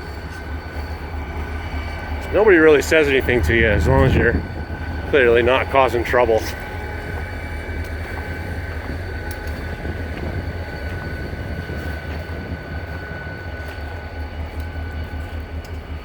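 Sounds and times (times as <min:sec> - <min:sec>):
thin high tone: 0:00.0 - 0:15.8
diesel locomotive engine idling: 0:00.0 - 0:16.0.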